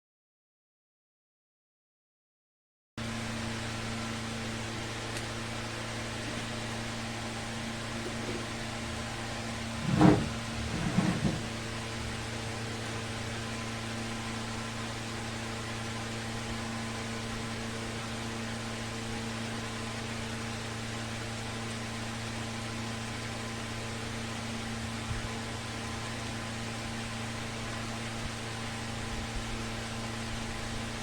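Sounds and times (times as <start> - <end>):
ceiling fan motor humming: 3.0 - 31.0.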